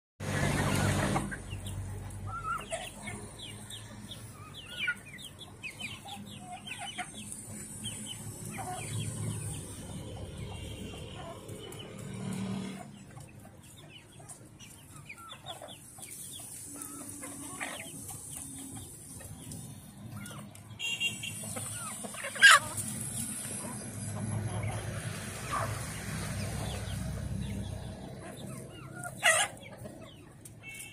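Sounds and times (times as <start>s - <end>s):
chickens clucking: 0.2s - 30.9s.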